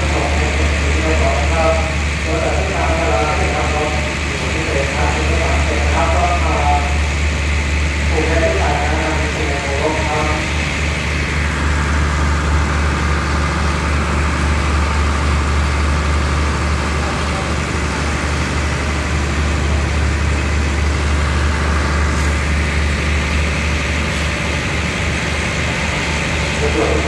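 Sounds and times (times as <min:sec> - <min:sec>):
diesel train engine idling: 0:00.0 - 0:27.0.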